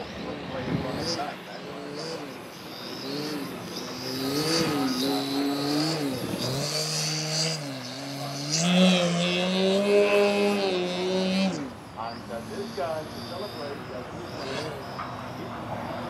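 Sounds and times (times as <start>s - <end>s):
model plane electric motor whine: 0.3s - 16.0s.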